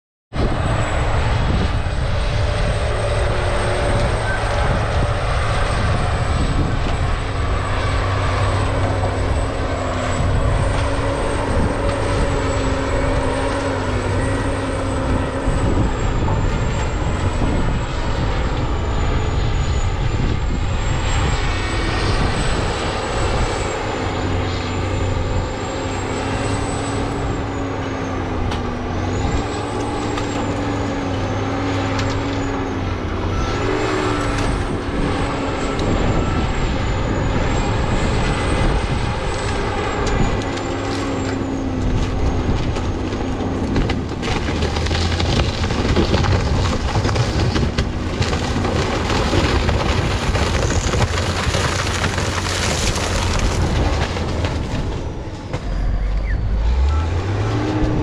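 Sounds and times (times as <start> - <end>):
diesel engine working: 0.3 - 58.0.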